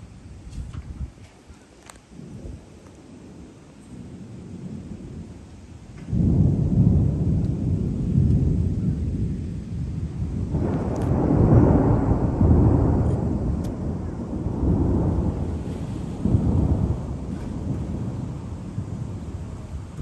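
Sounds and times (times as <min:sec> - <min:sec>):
thunder rumbling: 0:02.0 - 0:20.0.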